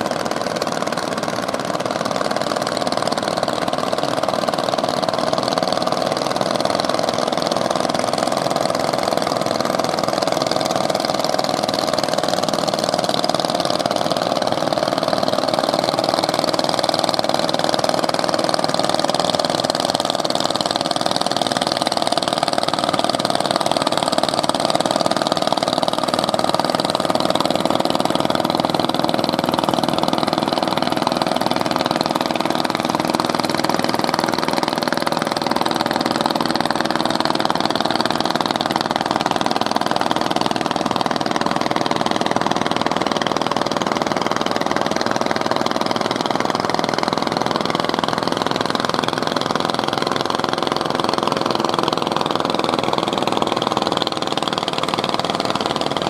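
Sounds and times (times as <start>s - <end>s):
boat engines humming: 0.0s - 56.0s.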